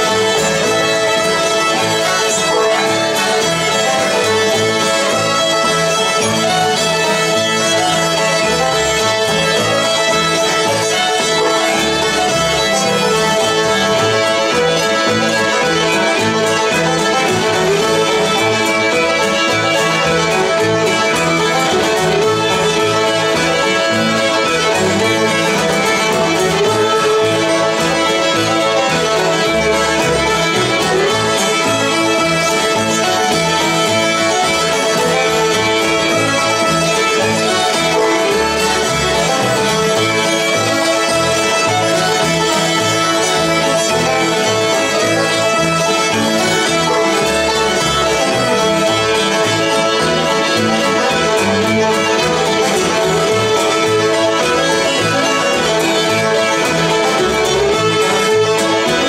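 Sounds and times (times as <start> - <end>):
acoustic guitar: 0.0 - 59.0
banjo: 0.0 - 59.0
fiddles playing melody: 0.0 - 59.0
plucked upright bass: 0.0 - 59.0.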